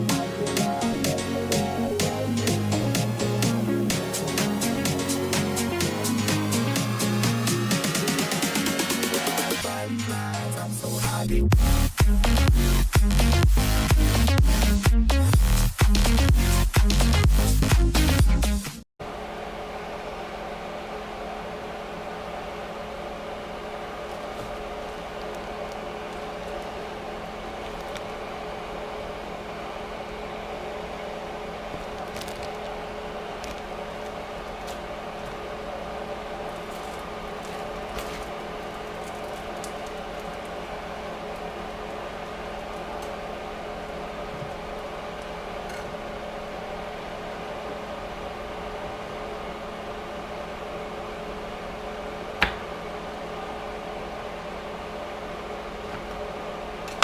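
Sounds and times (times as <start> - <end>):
steady mechanical hum: 0.0 - 14.8, 19.0 - 57.0.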